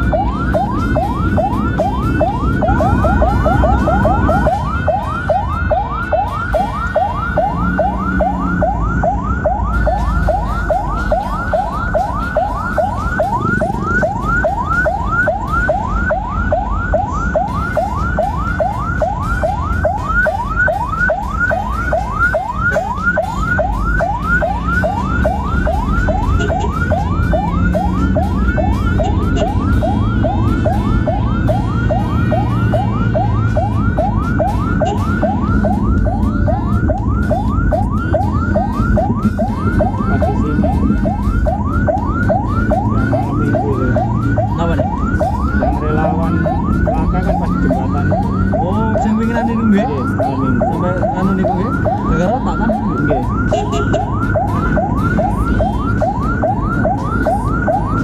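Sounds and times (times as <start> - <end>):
ambulance siren yelping: 0.0 - 58.0
vehicle engine and tyres rumbling: 0.0 - 58.0.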